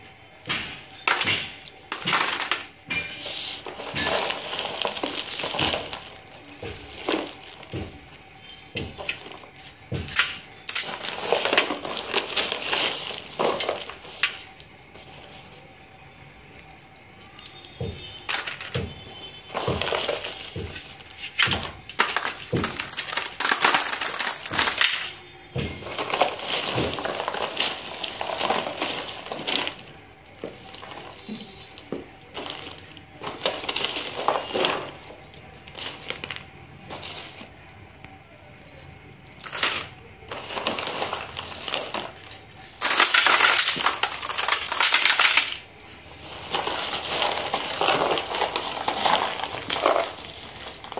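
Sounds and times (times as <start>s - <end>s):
slate pencil sticks clattering: 0.5s - 15.1s, 17.2s - 37.5s, 39.3s - 50.9s.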